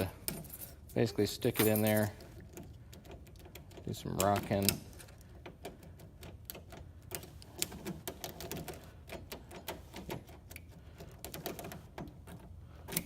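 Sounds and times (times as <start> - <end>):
key rattling in a lock: 0.0 - 13.0.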